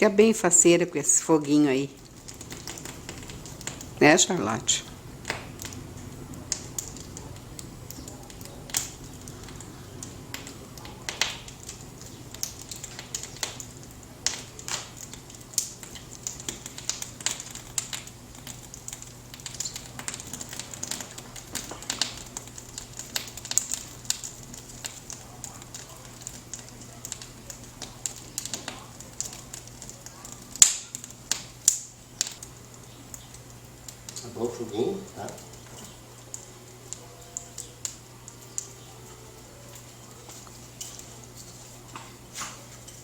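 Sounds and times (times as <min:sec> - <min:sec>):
low steady hum: 0:00.0 - 0:43.0
wood fire crackling: 0:00.0 - 0:43.0.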